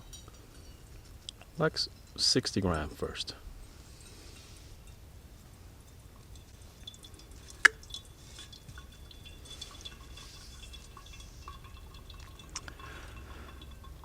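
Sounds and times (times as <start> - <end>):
water dripping through coffee grounds: 0.0 - 14.0.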